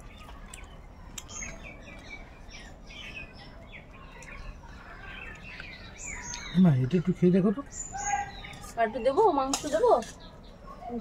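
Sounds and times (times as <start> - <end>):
birds chirping: 0.0 - 11.0
faint background noise: 0.0 - 11.0.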